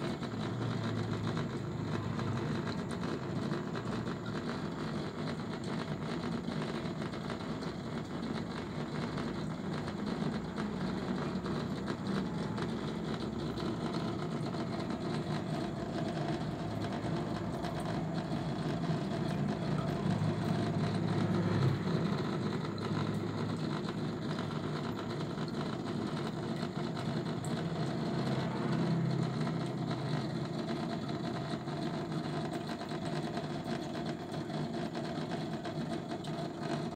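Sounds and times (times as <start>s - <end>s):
aquarium pump humming: 0.0s - 36.9s.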